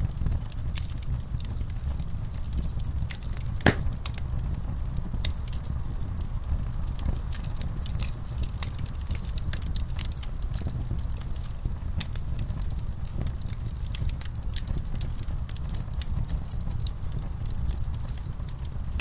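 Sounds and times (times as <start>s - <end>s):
fire rumbling in fireplace: 0.0s - 19.0s
wood crackling and popping: 0.0s - 19.0s.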